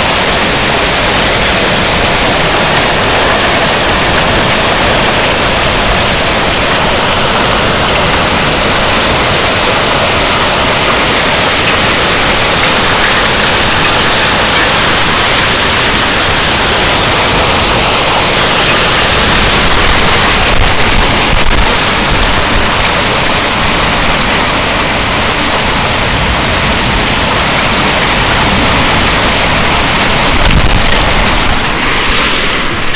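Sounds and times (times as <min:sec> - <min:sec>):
heavy rain: 0:00.0 - 0:32.9
storm wind: 0:00.0 - 0:32.9.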